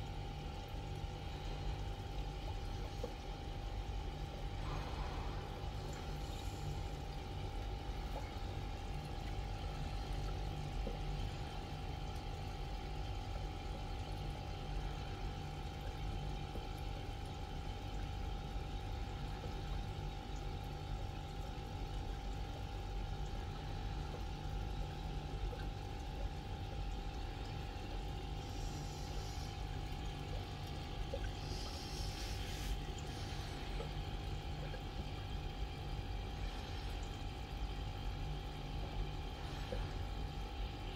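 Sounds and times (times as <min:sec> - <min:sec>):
aquarium pump humming: 0:00.0 - 0:40.9
water moving in tank: 0:00.0 - 0:40.9.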